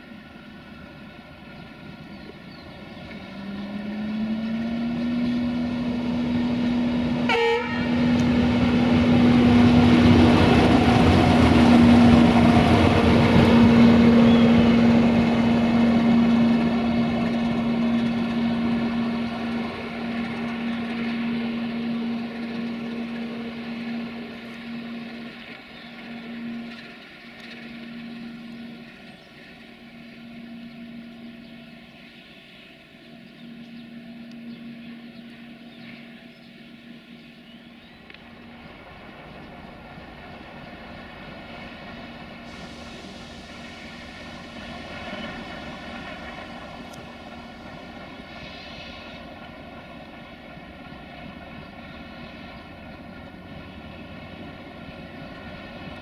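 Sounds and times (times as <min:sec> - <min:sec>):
steady humming tone: 0:00.0 - 0:56.0
train passing: 0:00.0 - 0:56.0.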